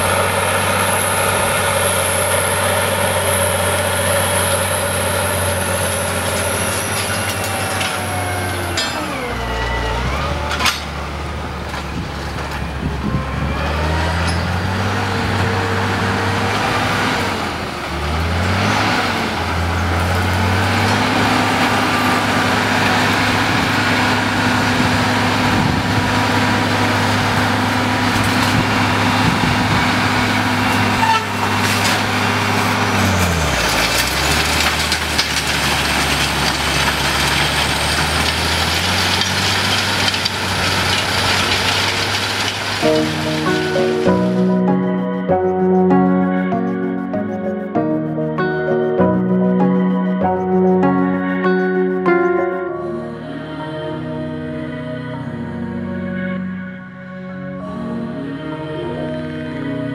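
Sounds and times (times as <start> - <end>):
tractor diesel engine under load: 0.0 - 52.7.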